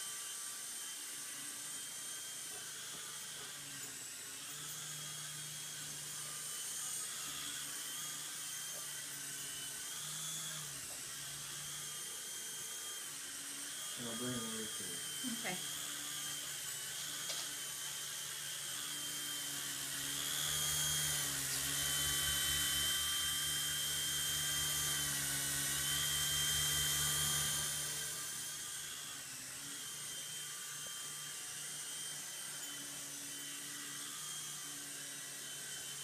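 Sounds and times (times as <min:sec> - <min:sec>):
rc helicopter rotors whining: 0:00.0 - 0:36.0.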